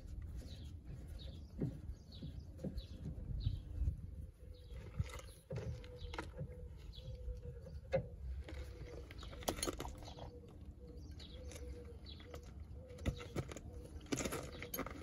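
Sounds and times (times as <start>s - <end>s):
low steady rumble: 0.0s - 12.8s.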